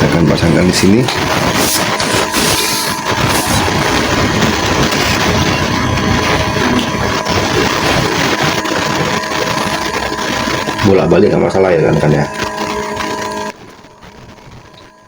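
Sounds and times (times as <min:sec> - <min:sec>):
electrical hiss and hum: 0:00.0 - 0:15.0
thin constant whine: 0:00.0 - 0:15.0.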